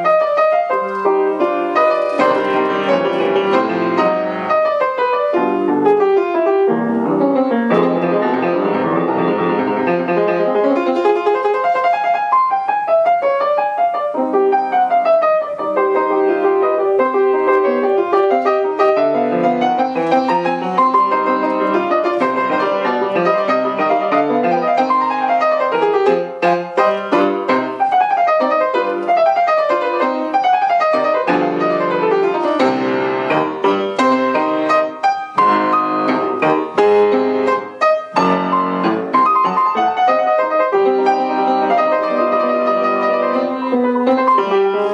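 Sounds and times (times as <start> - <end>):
solo piano piece: 0.0 - 44.9.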